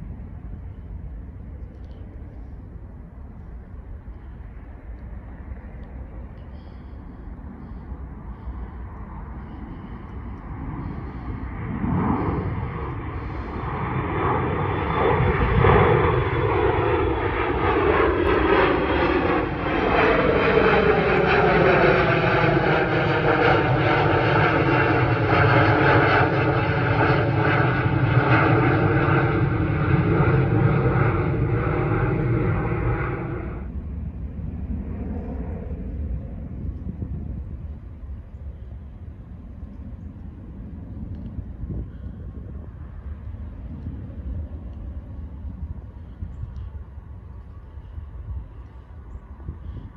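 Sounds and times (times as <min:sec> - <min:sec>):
jet engine roaring overhead: 0:00.0 - 0:49.9.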